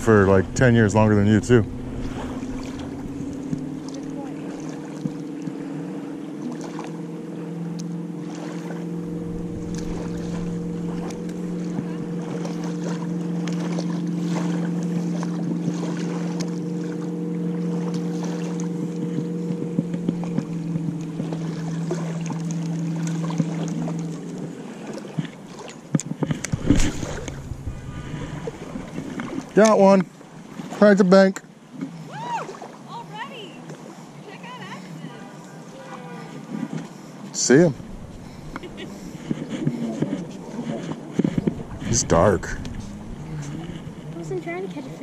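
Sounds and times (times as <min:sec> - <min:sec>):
motorboat engine droning: 0:00.0 - 0:45.0.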